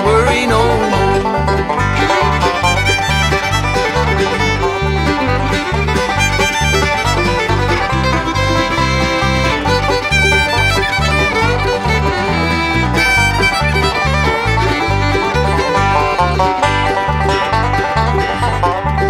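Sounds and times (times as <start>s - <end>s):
banjo: 0.0s - 19.0s
bass pulsing beat: 0.0s - 19.0s
fiddle: 0.0s - 19.0s
guitar: 0.0s - 19.0s.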